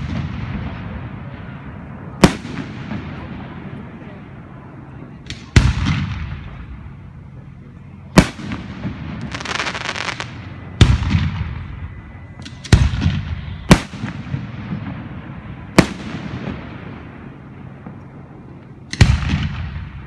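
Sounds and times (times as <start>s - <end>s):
firework crackling: 0.0s - 7.3s, 8.1s - 20.0s.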